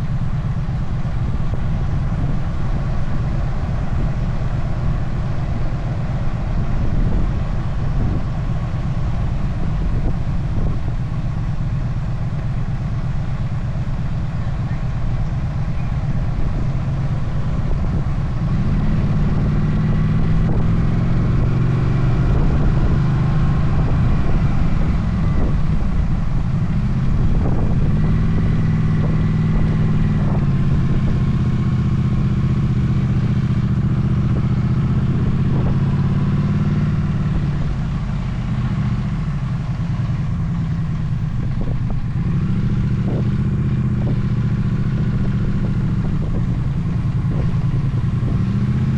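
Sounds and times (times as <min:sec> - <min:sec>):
motorcycle engine running: 0:00.0 - 0:48.9
wind and road noise rumble: 0:00.0 - 0:48.9.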